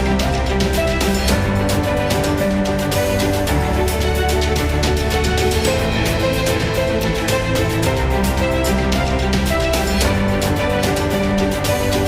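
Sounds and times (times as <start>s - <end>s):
synth music with steady beat: 0.0s - 12.0s.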